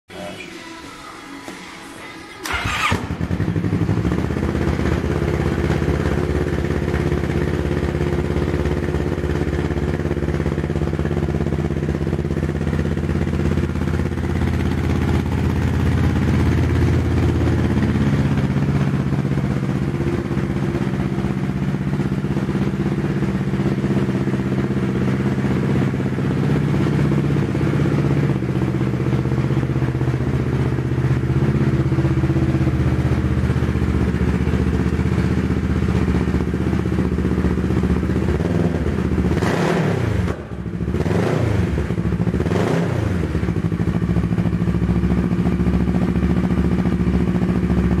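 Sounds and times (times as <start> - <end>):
motorcycle engine idling and revving: 2.4 - 48.0.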